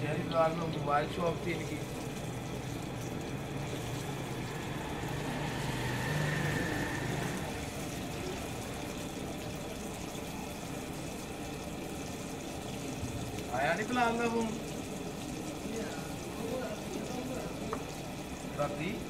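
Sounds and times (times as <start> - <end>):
patties sizzling in oil: 0.0 - 19.0.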